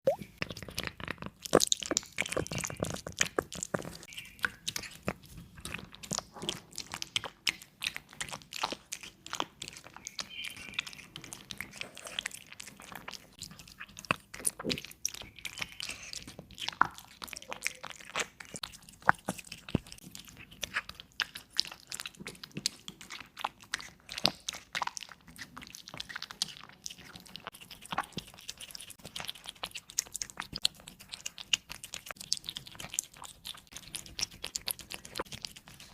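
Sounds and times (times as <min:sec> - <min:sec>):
cat chewing food: 0:00.1 - 0:35.9.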